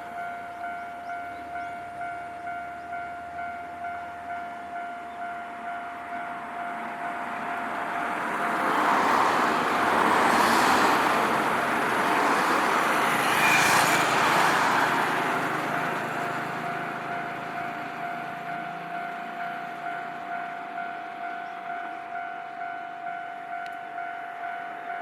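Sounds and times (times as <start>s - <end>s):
level crossing warning bell: 0.0s - 25.0s
train passing: 0.0s - 25.0s.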